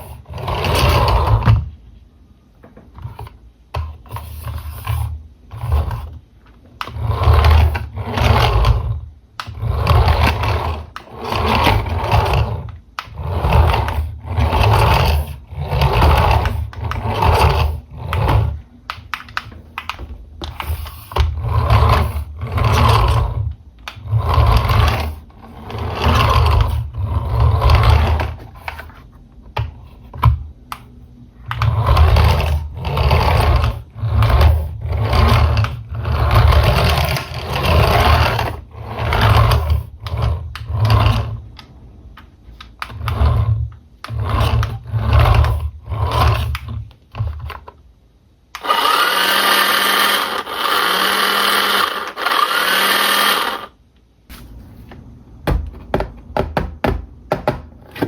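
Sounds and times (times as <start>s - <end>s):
toy car electric motor whirring: 0.0s - 1.7s, 3.0s - 6.2s, 6.8s - 28.9s, 31.5s - 41.4s, 42.6s - 47.7s, 48.5s - 53.8s.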